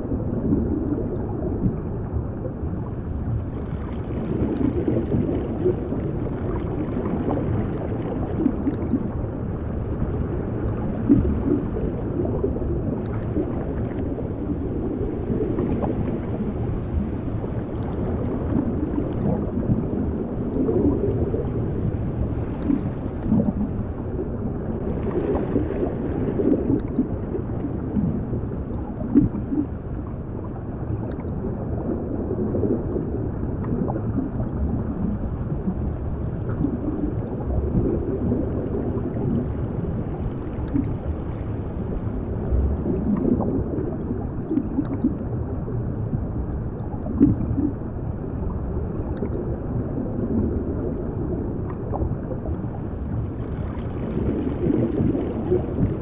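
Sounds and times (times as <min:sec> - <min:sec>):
gurgling bubbles: 0:00.0 - 0:56.0
muffled underwater rumble: 0:00.0 - 0:56.0.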